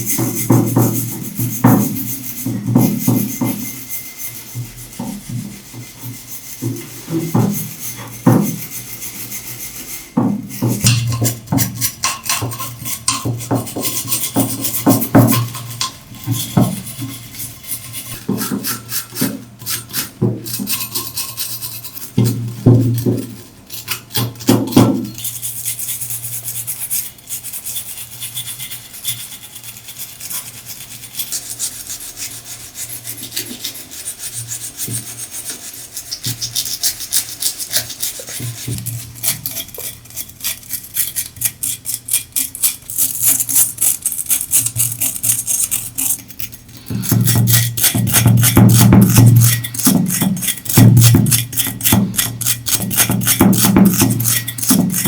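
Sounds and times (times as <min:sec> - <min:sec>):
scraping and rubbing on metal pot: 0:00.0 - 0:55.0.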